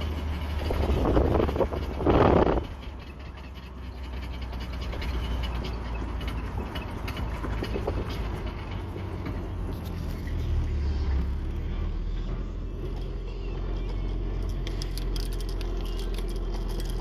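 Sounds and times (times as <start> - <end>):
rapid clicks and rattles: 0.0 - 10.5, 12.8 - 17.0
car engine low rumble: 0.0 - 17.0.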